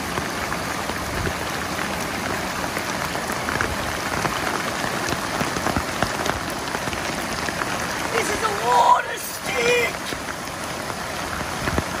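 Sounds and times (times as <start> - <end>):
floodwater rushing over rock: 0.0 - 12.0
heavy rain: 0.0 - 12.0
small water splashes: 0.0 - 12.0.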